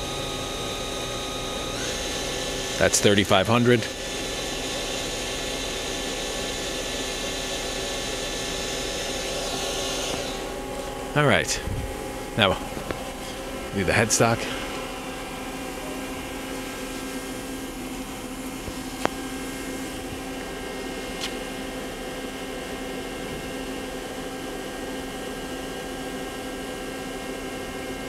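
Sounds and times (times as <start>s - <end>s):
lathe humming and whining: 0.0s - 28.0s.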